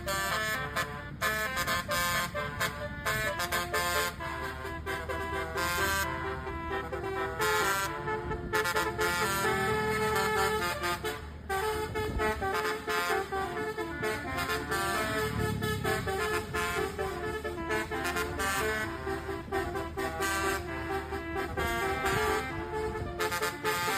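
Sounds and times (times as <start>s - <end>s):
bus air horn playing a tune: 0.0s - 23.9s.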